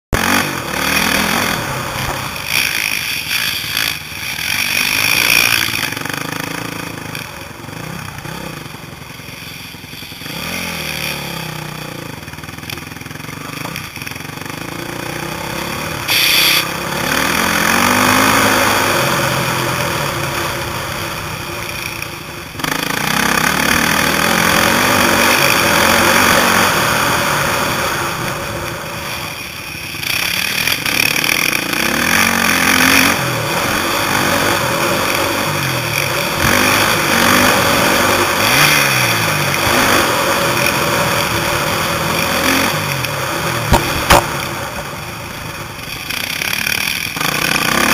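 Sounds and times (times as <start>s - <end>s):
motocross bike engines revving: 0.2s - 47.9s.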